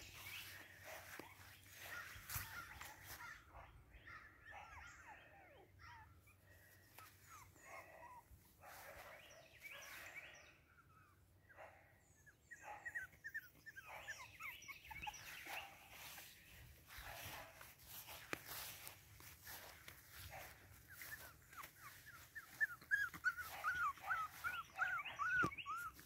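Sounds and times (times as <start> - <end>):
puppies whimpering and yipping: 0.0 - 8.5, 12.1 - 26.0.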